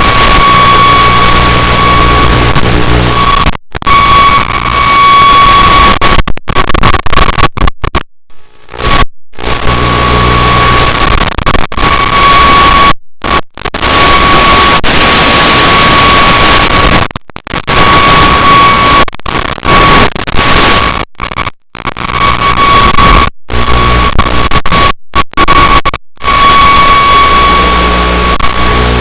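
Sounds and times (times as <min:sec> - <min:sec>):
static hiss: 0:00.0 - 0:29.0.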